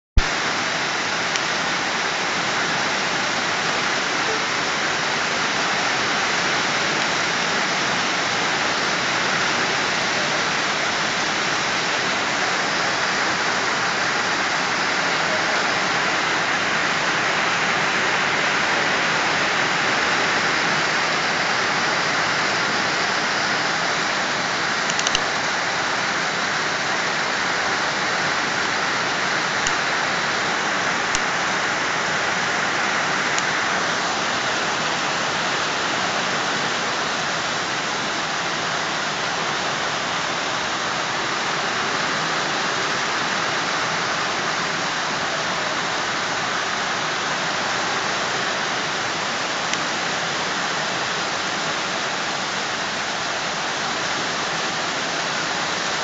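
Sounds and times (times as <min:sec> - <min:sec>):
heavy rain pouring: 0:00.2 - 0:56.0.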